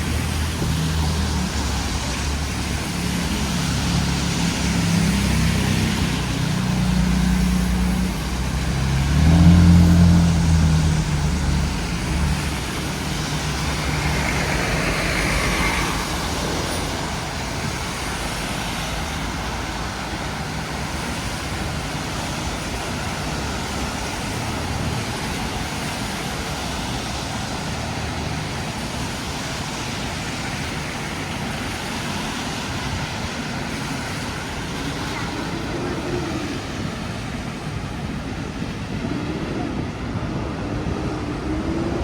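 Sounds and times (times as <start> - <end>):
rain and tyres on wet street: 0.0 - 42.0.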